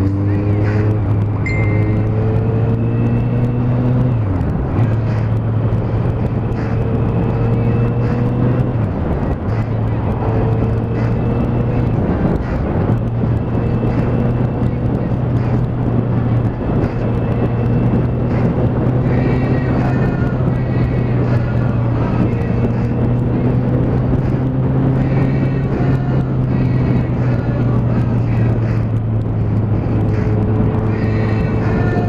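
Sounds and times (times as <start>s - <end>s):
motorcycle engine cruising: 0.0s - 32.0s
wind noise on microphone: 0.0s - 32.0s.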